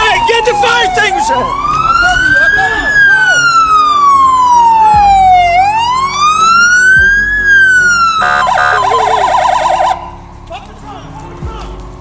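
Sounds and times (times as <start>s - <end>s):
siren wailing: 0.0s - 10.2s.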